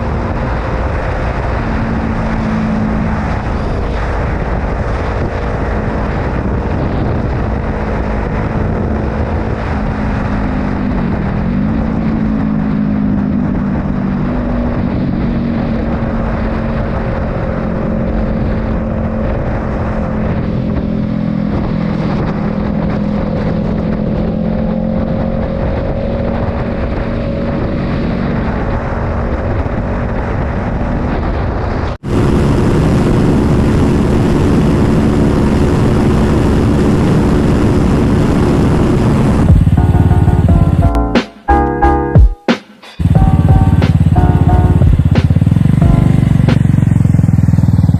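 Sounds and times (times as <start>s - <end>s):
wind rush: 0.0s - 41.8s, 42.5s - 47.9s
motorcycle engine cruising: 0.0s - 47.9s.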